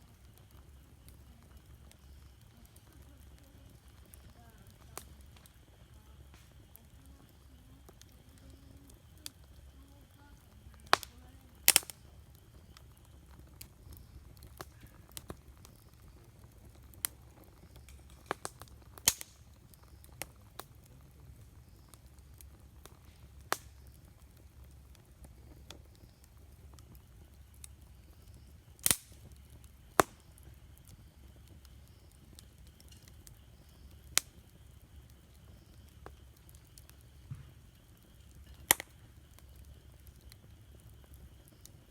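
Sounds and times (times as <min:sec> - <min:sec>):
campfire pops and cracks: 0:00.0 - 0:41.9
low steady hum: 0:00.0 - 0:41.9.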